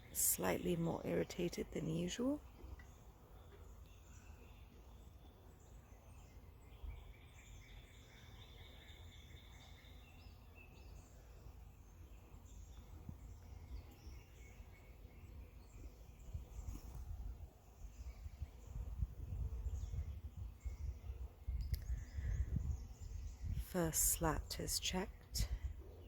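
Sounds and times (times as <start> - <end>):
faint high chirping calls: 0.0 - 26.0.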